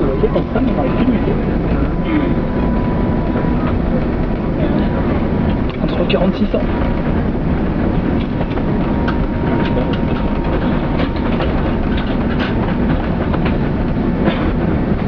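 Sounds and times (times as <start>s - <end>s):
airliner cabin low rumble: 0.0s - 15.0s
rattles and clicks: 0.0s - 15.0s.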